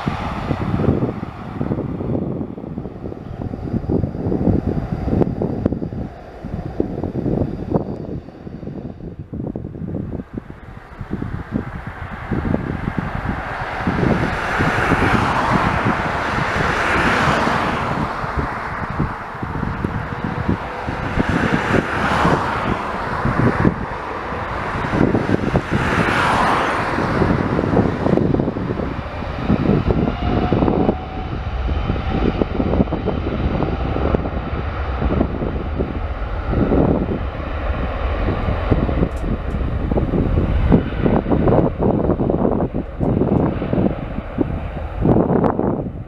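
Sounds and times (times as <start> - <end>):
jet engines rumbling at takeoff: 0.0 - 46.0
wind buffeting microphone: 0.0 - 46.0.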